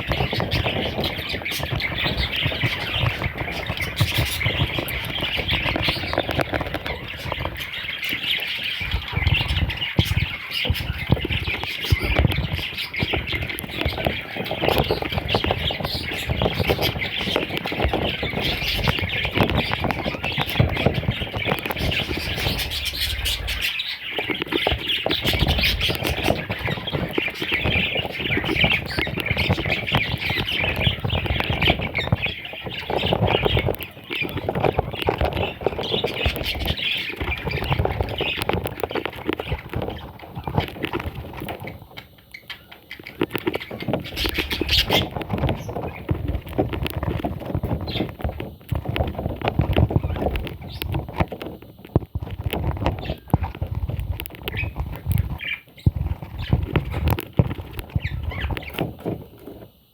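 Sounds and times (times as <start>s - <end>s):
baby birds squawking and chirping: 0.0s - 51.5s, 52.2s - 59.6s
rustling and fluttering: 0.0s - 59.9s.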